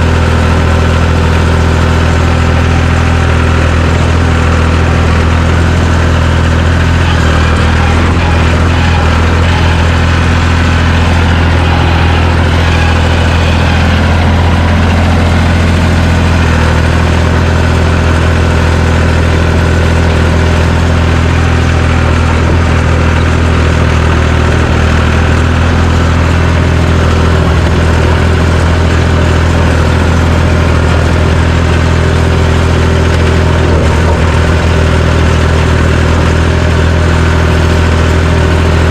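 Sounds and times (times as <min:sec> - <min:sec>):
bulldozer engine droning: 0:00.0 - 0:38.9.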